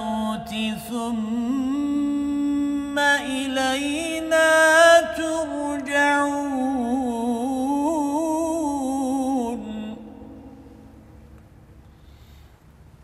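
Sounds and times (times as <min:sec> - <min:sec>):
man reciting melodically: 0:00.0 - 0:10.9.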